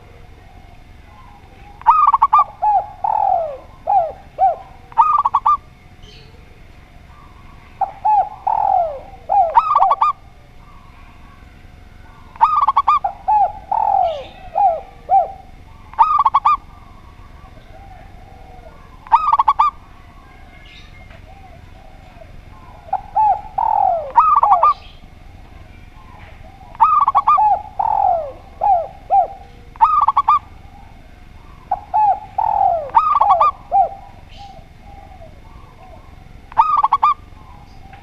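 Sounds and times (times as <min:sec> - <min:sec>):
doves singing: 0:00.0 - 0:38.0.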